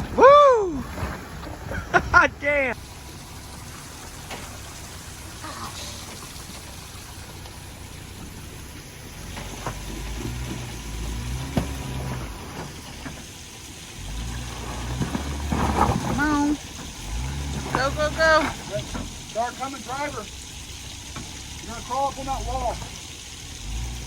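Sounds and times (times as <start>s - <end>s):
engine rumbling low: 0.0s - 24.0s
steady rain hiss: 0.0s - 24.0s.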